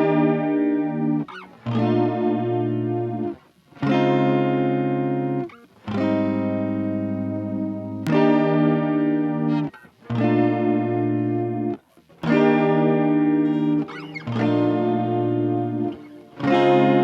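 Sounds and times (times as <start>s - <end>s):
electric guitar chords with chorus: 0.0s - 17.0s.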